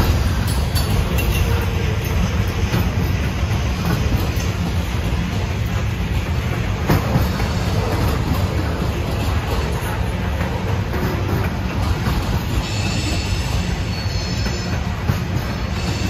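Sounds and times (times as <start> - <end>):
train cars rumbling: 0.0 - 16.0
wheels clacking on rail joints: 0.0 - 16.0.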